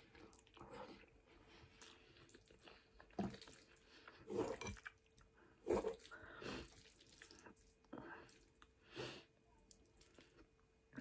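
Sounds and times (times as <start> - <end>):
person chewing food: 0.0 - 8.9, 9.6 - 11.0.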